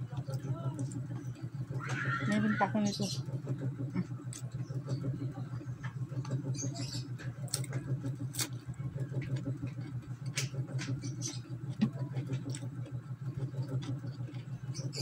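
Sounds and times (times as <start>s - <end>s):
chewing crisp cucumber: 0.0s - 2.2s, 3.2s - 15.0s.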